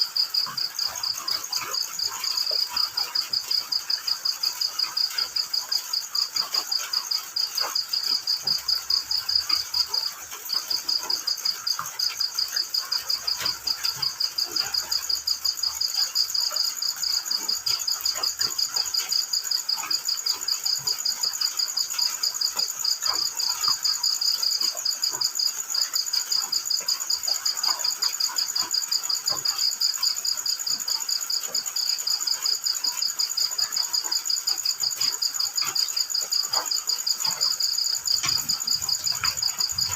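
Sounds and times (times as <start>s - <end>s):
crickets chirping: 0.0s - 39.9s
faint high insect trill: 0.0s - 39.9s
faint ticks: 4.4s - 39.9s.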